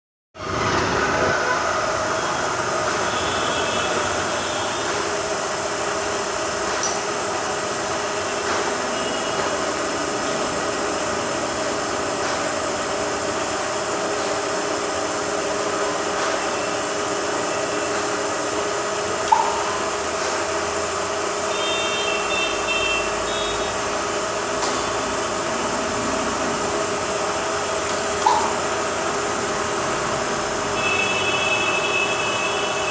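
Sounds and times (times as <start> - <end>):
milling machine hum and whine: 0.4 - 32.9.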